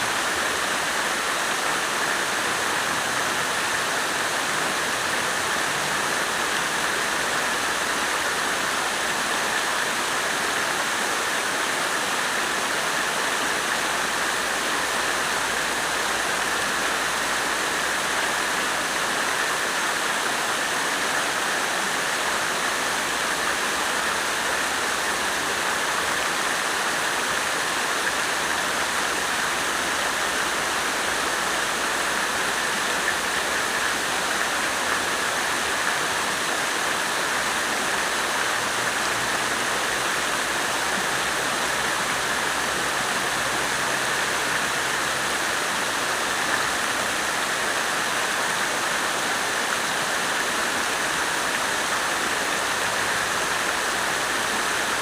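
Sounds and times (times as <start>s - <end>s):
water fountain splashing: 0.0s - 55.0s.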